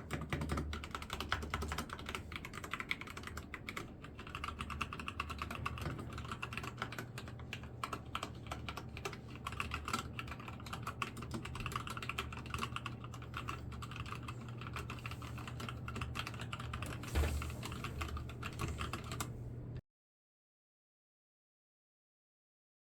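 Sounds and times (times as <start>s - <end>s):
mechanical keyboard typing: 0.0s - 19.3s.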